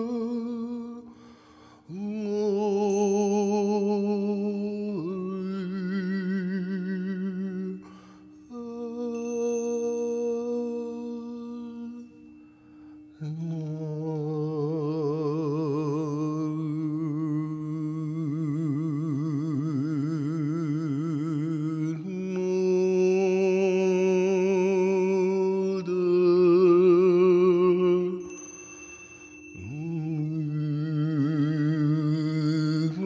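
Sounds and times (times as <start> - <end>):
person chanting long vocal notes: 0.0 - 1.2, 1.8 - 12.3, 13.2 - 28.6, 29.5 - 33.0.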